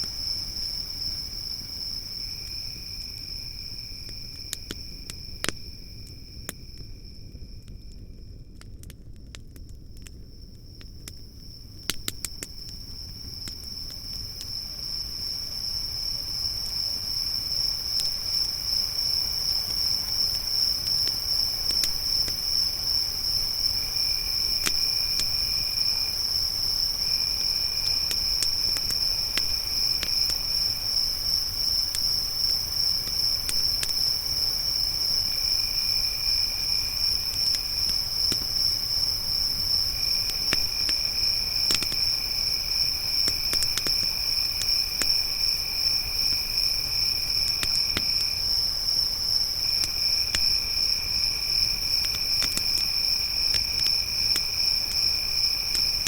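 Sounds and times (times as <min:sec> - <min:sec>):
lower insect trill: 0:00.0 - 0:08.3, 0:10.4 - 0:56.0
campfire crackles: 0:00.0 - 0:56.0
crickets chirping: 0:00.0 - 0:56.0.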